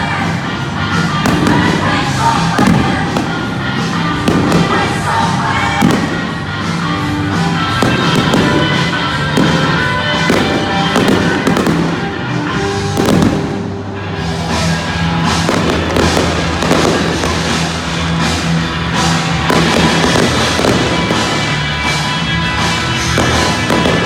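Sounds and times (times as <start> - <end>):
fireworks bursting and crackling: 0.0 - 24.0
music with held notes: 0.0 - 24.0.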